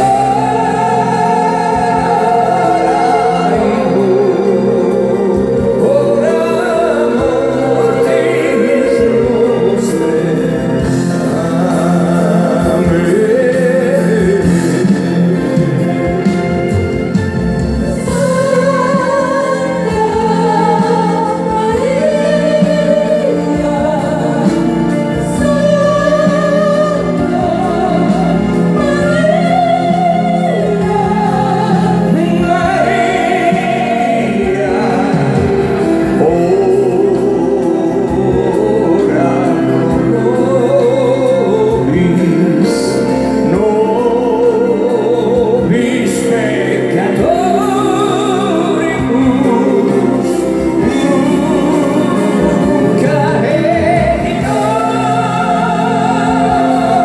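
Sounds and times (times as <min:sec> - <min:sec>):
live band playing: 0:00.0 - 0:57.0
person singing with vibrato: 0:00.0 - 0:57.0.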